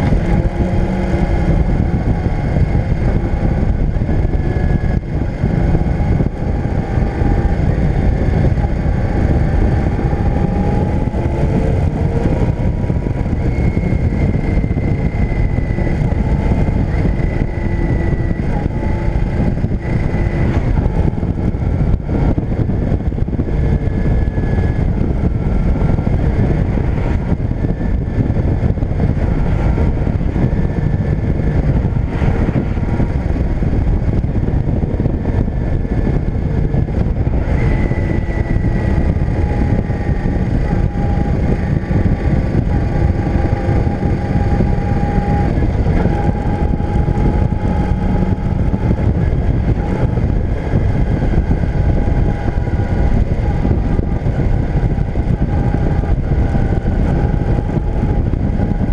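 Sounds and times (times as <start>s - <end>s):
motorcycle engine running: 0.0s - 58.9s
wind rush over microphone: 0.0s - 58.9s.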